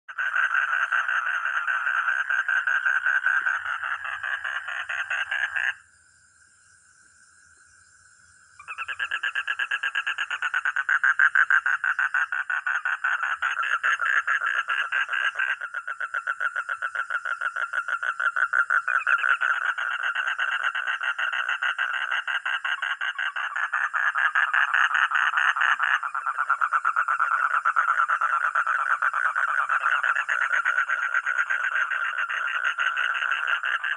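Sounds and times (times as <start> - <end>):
frog trilling: 0.1 - 5.8, 8.6 - 33.9.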